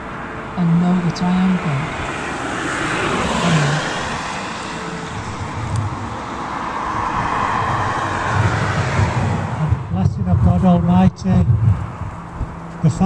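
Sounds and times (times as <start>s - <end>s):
road traffic rushing: 0.0s - 13.0s
wind on microphone: 1.0s - 13.0s.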